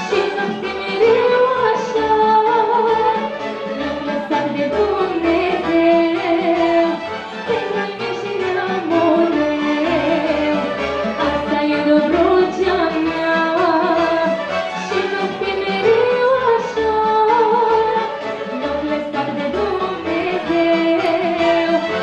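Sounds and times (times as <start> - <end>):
folk orchestra with violins and accordions: 0.0 - 22.0
woman singing: 0.0 - 22.0.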